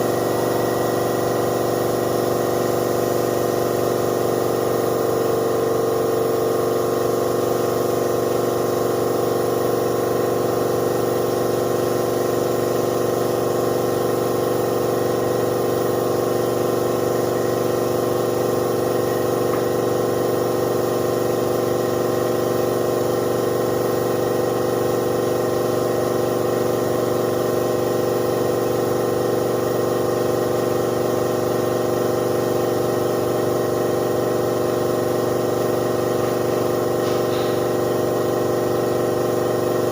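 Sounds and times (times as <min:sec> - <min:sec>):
air compressor motor humming: 0:00.0 - 0:39.9.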